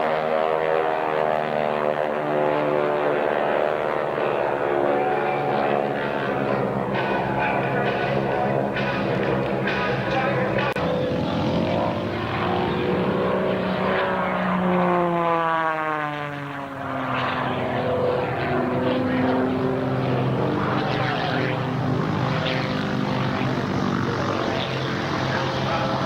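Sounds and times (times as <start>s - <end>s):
propeller aircraft engine: 0.0s - 26.0s.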